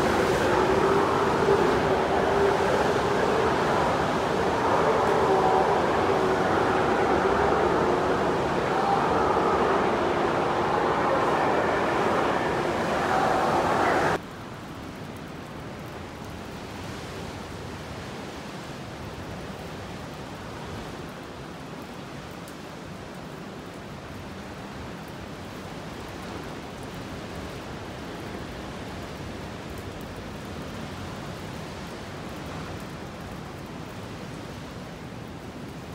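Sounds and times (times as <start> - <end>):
waterfall: 0.0 - 35.9.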